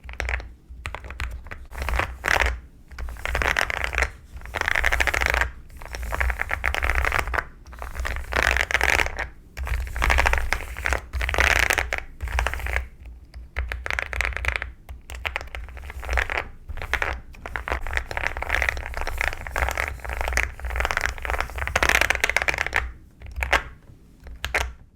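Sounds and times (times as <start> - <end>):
typing on a mechanical keyboard: 0.0 - 24.9.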